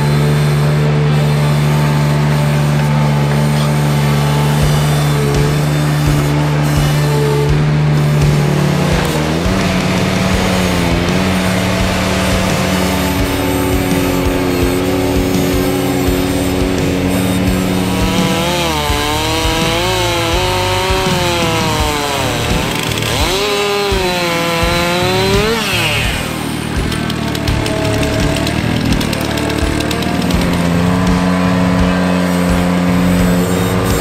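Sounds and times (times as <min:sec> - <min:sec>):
distorted electric guitar lead: 0:00.0 - 0:34.0
rock music: 0:00.0 - 0:34.0.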